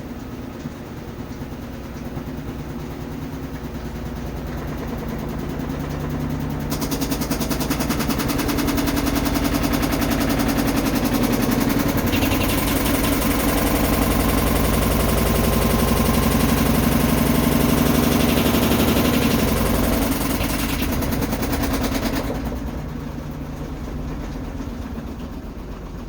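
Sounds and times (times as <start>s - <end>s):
washing machine drum grinding: 0.0s - 26.0s.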